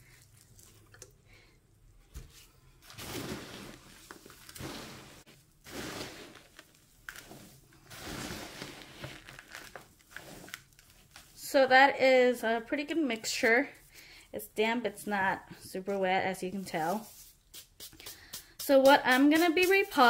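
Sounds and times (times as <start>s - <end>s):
hands mixing potting soil: 2.2s - 14.0s, 15.1s - 20.0s.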